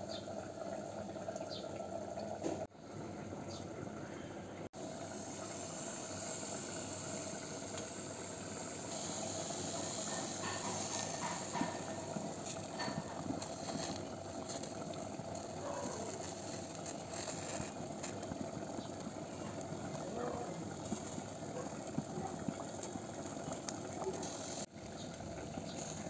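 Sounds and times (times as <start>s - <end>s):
gas burner hissing: 4.6s - 26.0s
tomatoes sizzling: 4.8s - 26.0s.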